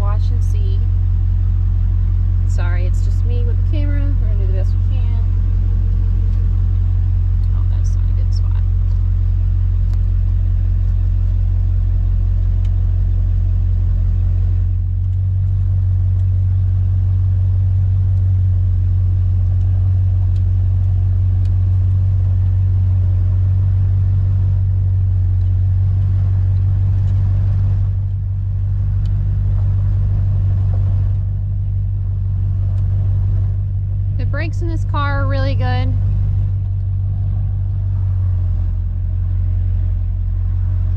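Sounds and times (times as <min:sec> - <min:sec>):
car engine drone: 0:00.0 - 0:40.9
road noise: 0:00.0 - 0:40.9.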